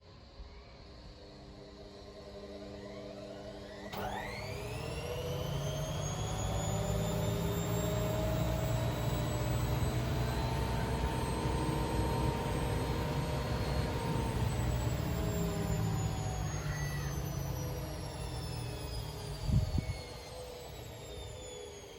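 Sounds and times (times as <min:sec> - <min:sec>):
washing machine motor whine: 0:01.2 - 0:21.9.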